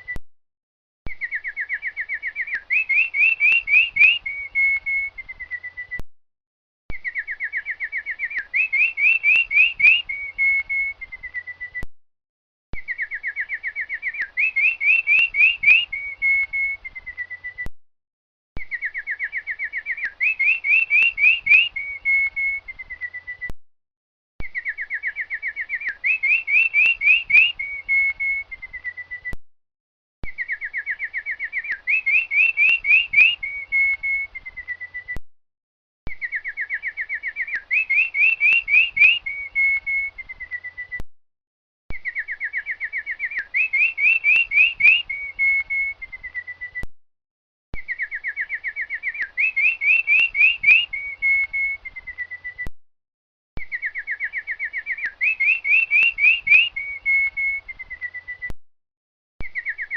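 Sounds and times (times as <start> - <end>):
songbird singing: 1.1 - 6.0, 6.9 - 11.9, 12.8 - 17.7, 18.6 - 23.6, 24.4 - 29.4, 30.2 - 35.2, 36.1 - 41.0, 41.9 - 46.9, 47.8 - 52.7, 53.6 - 58.6, 59.4 - 59.9.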